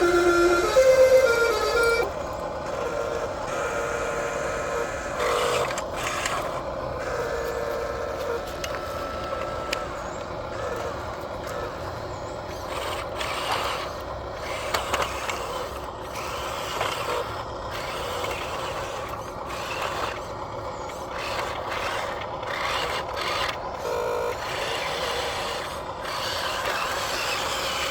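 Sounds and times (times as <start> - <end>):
small electric motors whirring: 0.0 - 27.9.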